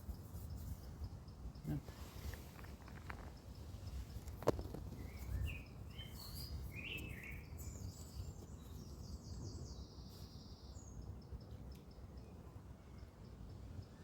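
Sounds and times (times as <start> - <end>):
songbird chirps: 0.0 - 14.0.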